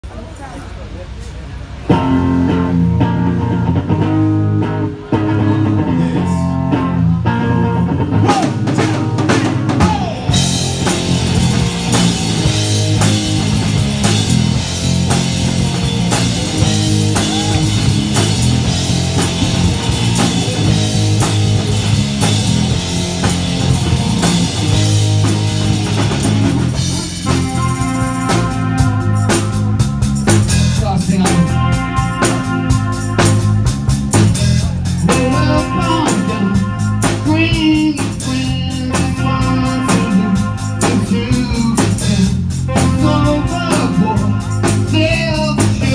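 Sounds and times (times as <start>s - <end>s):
bass guitar: 1.1s - 45.9s
drum kit: 1.8s - 45.9s
electric guitar: 1.8s - 45.9s.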